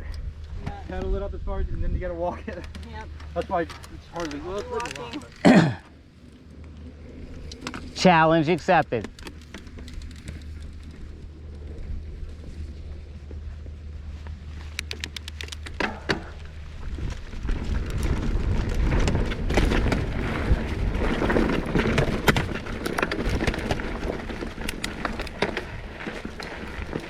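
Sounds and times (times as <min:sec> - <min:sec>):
wind buffeting microphone: 0:00.0 - 0:14.6, 0:15.7 - 0:27.0
bike clicking and rattling: 0:00.0 - 0:27.0
tyres crunching on dirt: 0:02.1 - 0:27.0.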